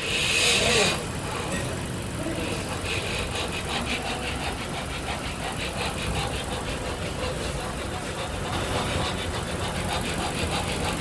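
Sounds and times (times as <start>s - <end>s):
rapid even ticking: 1.8s - 11.0s.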